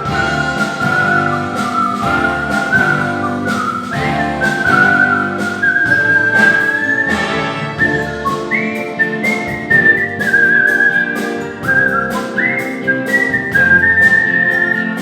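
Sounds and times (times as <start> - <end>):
instrumental backing with steady beat: 0.0 - 15.0
man whistling a melody: 0.0 - 15.0.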